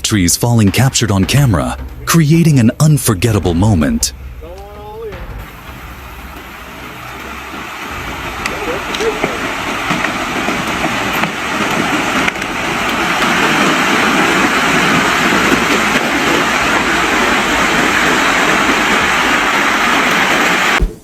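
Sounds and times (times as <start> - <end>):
loud steady rushing noise: 0.0 - 21.0
sharp knocks: 0.0 - 21.0.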